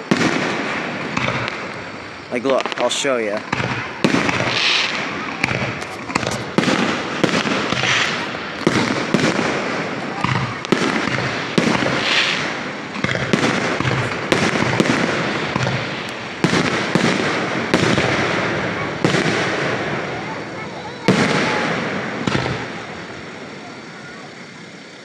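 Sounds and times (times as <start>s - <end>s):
fireworks bursting with sharp bangs: 0.0s - 25.0s.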